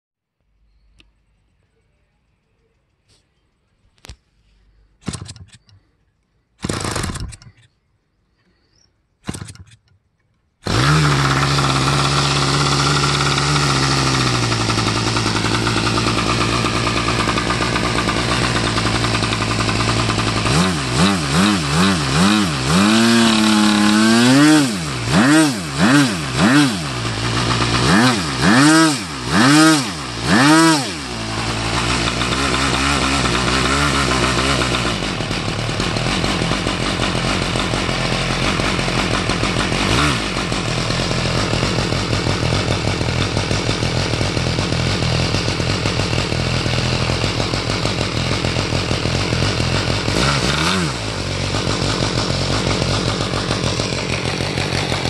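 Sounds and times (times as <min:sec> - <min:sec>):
model plane engine running: 0:10.6 - 0:55.0.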